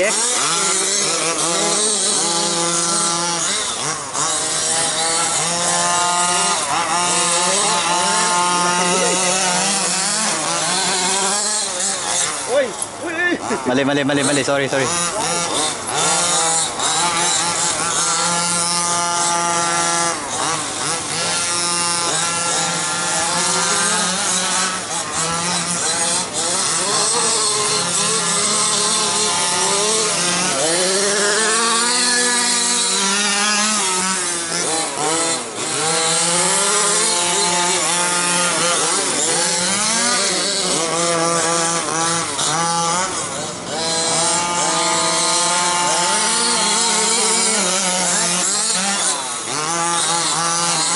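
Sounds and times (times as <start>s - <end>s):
small two-stroke engines revving: 0.0s - 50.9s.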